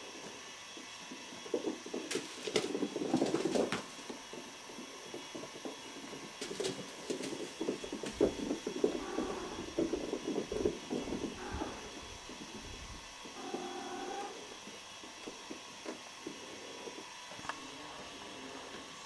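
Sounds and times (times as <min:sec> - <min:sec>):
rustling and scratching: 0:00.0 - 0:19.0
steady hiss: 0:00.0 - 0:19.0.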